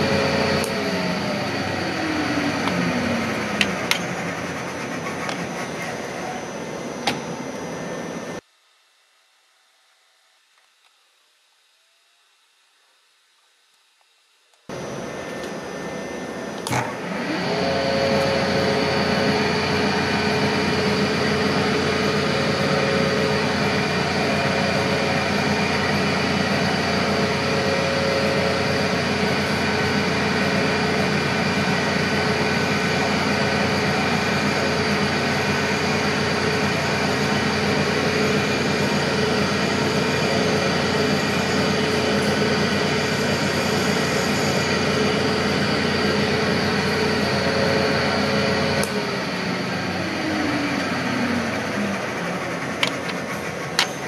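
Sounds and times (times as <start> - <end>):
milling machine spindle whining: 0.0 - 8.4, 14.7 - 54.0.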